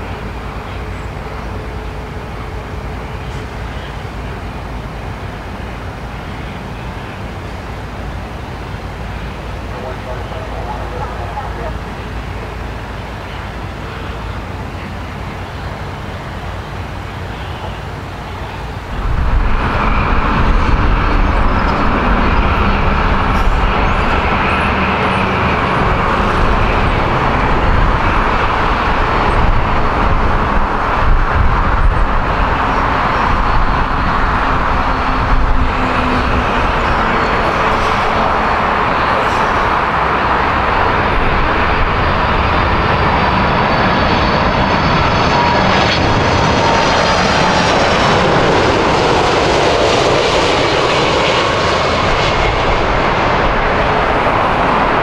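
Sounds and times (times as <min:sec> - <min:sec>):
aircraft engine noise: 0:00.0 - 0:55.0
steady whine: 0:00.0 - 0:55.0.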